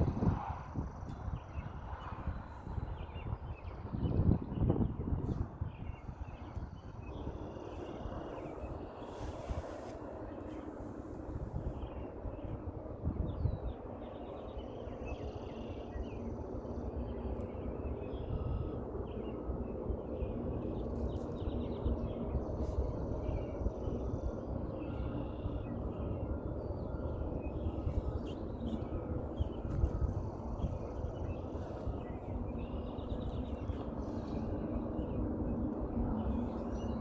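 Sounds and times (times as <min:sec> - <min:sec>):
low rumble from the sky: 0:00.0 - 0:37.0
birds chirping: 0:00.9 - 0:37.0.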